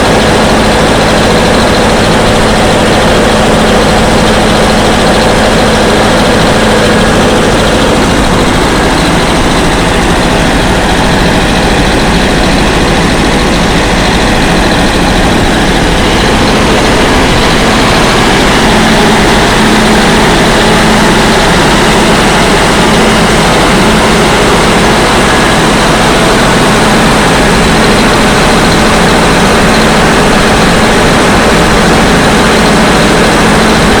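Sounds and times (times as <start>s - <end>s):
air compressor engine drone: 0.0s - 34.0s.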